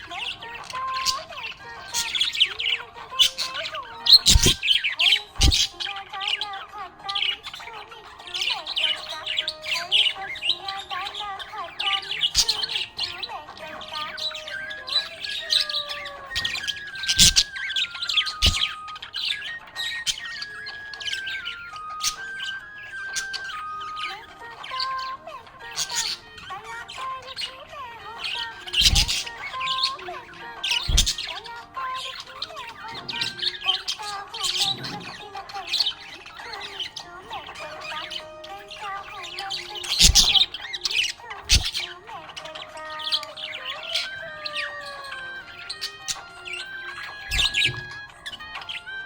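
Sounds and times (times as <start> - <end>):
budgerigars chirping and squawking: 0.0 - 49.0.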